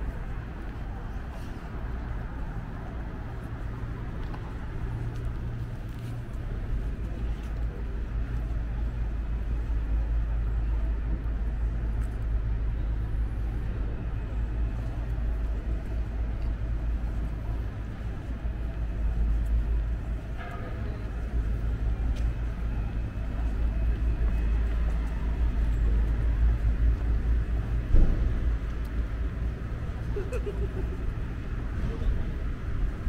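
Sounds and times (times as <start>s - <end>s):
traffic rumble: 0.0s - 33.0s
urban hum: 0.0s - 33.0s.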